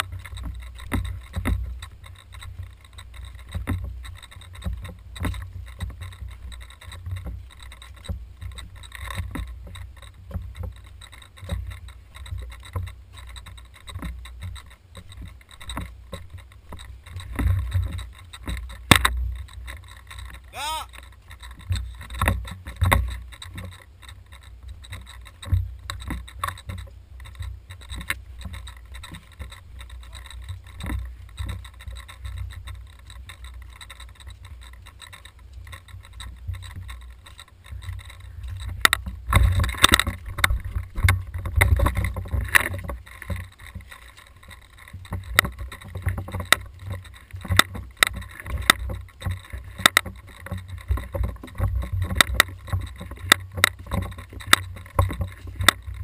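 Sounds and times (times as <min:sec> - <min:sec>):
footstep knocks and rifle clicks: 0:00.0 - 0:56.0.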